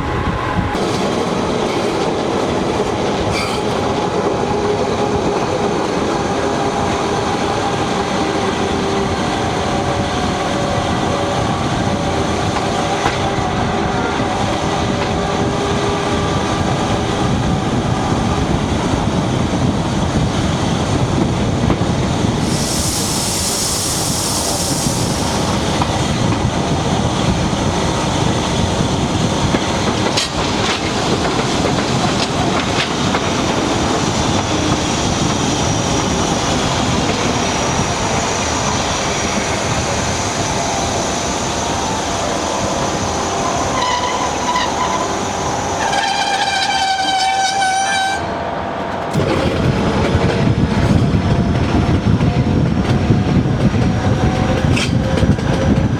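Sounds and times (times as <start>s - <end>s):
train wheels clickety-clack: 0.8s - 13.4s, 14.8s - 39.9s, 48.8s - 55.9s.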